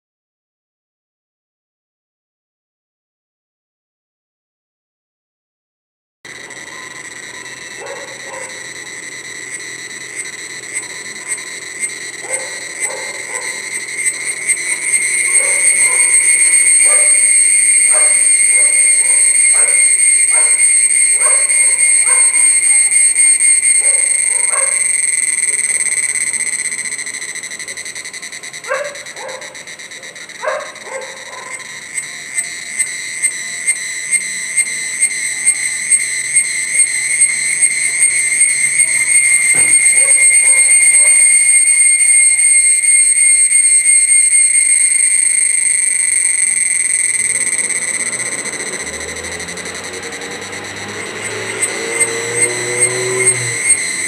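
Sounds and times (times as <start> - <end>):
cicada high-pitched whistling: 6.3 - 54.0.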